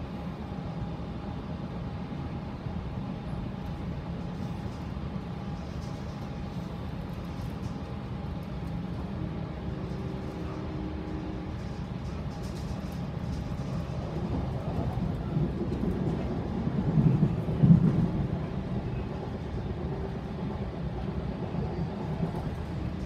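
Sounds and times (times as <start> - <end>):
faint train whine: 0.0 - 23.0
wheels rumbling on rails: 0.0 - 23.0.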